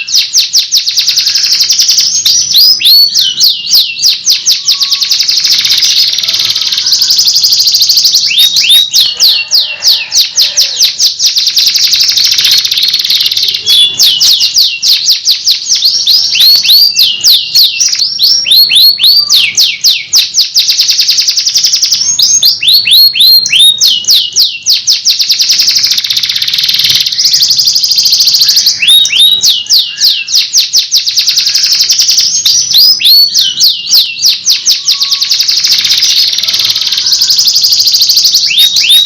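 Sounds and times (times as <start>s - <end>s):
canary singing: 0.0s - 39.0s.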